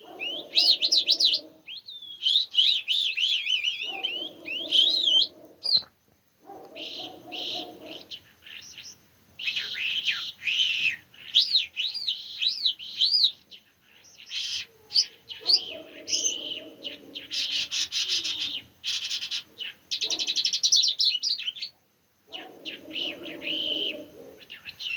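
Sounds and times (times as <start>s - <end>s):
lower pulsing bird call: 0.0s - 5.9s, 6.8s - 24.9s
songbird singing: 0.0s - 24.9s.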